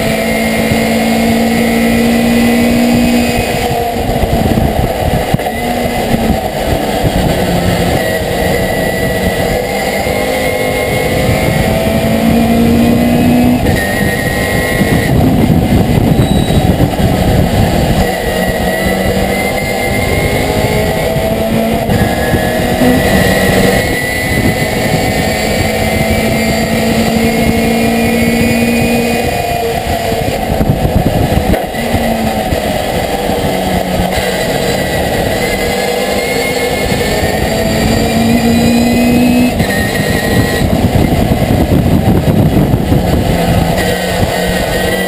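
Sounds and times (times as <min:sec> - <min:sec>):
road and wind noise: 0:00.0 - 0:45.0
truck engine revving through gears: 0:00.0 - 0:45.0.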